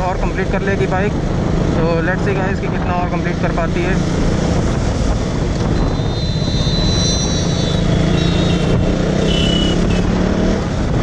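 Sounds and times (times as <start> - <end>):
wind rushing over microphone: 0.0 - 11.0
motorcycle engine cruising: 0.1 - 11.0.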